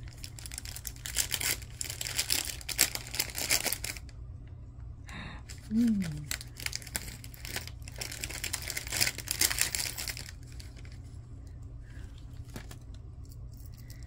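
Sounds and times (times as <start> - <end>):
packaging crinkling: 0.0 - 4.1, 5.5 - 11.1, 11.9 - 14.0.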